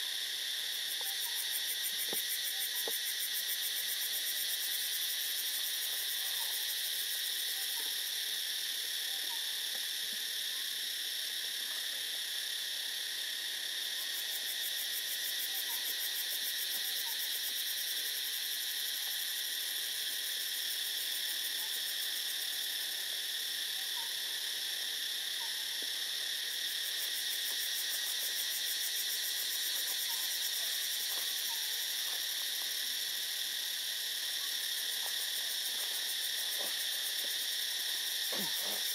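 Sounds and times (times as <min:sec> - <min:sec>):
dense insect chorus: 0:00.0 - 0:38.9.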